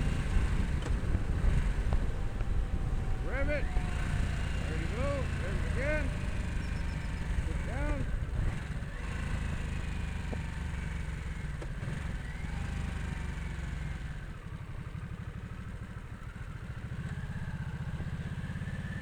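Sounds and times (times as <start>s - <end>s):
motorcycle engine at low revs: 0.0s - 19.0s.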